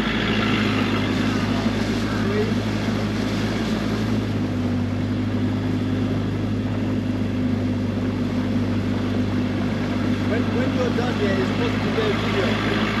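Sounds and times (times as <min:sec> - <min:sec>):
boat engine droning: 0:00.0 - 0:13.0
wind and water rushing: 0:00.0 - 0:13.0.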